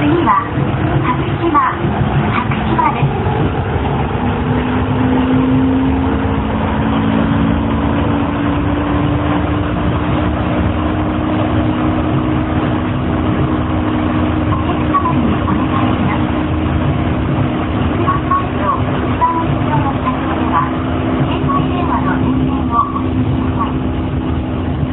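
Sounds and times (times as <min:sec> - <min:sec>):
train running rumble: 0:00.0 - 0:24.9
train traction motor whine: 0:00.0 - 0:24.9.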